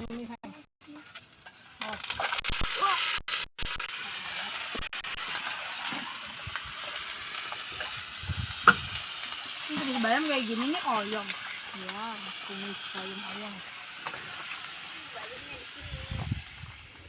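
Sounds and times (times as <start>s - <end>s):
vegetables sizzling in a pan: 0.8s - 17.0s.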